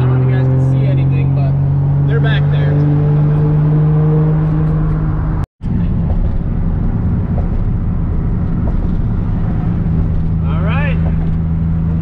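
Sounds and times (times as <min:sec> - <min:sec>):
car engine droning: 0:00.0 - 0:12.0
tyre and road noise: 0:00.0 - 0:12.0.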